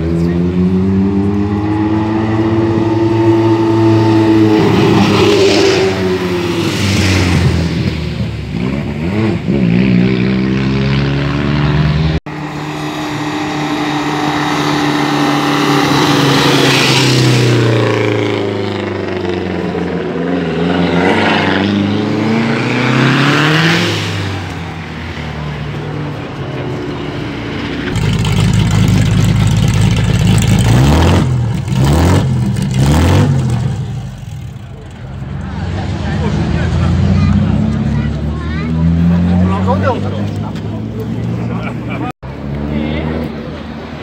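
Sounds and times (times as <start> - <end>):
cars driving past: 0.0 - 44.0.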